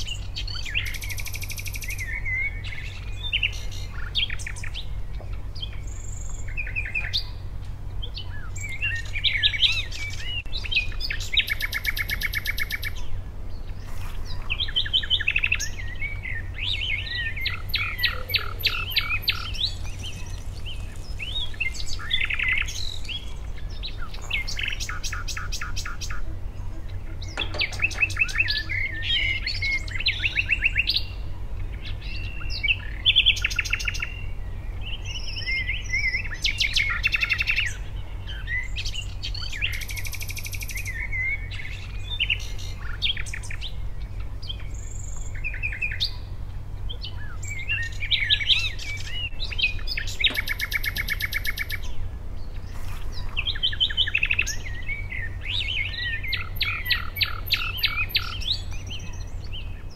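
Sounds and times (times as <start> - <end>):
birds chirping and trilling: 0.0 - 59.9
steady low hum: 0.0 - 59.9.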